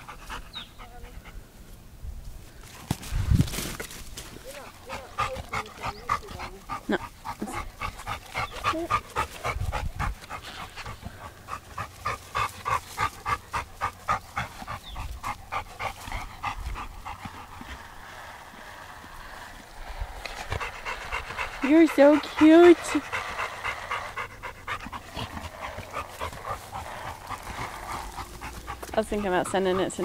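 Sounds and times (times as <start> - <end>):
dog panting: 0.0 - 1.4, 4.4 - 30.0.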